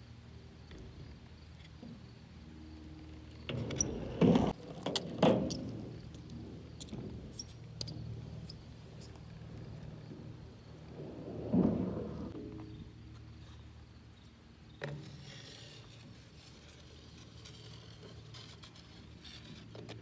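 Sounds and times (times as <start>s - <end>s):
skateboard wheels rolling: 3.0s - 20.0s.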